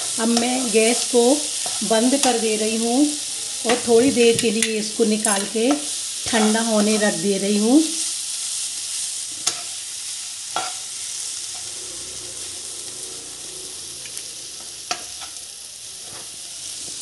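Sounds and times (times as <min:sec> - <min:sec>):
soft sizzle: 0:00.0 - 0:17.0
spatula stirring vegetables in pan: 0:00.0 - 0:17.0.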